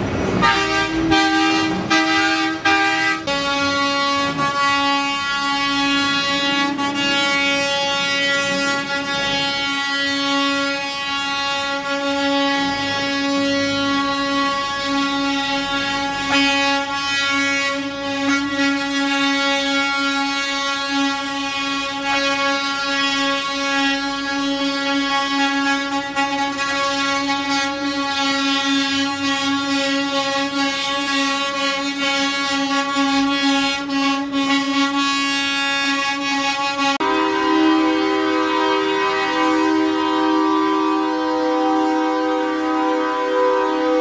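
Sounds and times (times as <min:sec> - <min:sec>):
higher-pitched horn: 0:00.0 - 0:44.0
truck air horn blast: 0:00.0 - 0:44.0
trucks rumbling: 0:00.0 - 0:44.0.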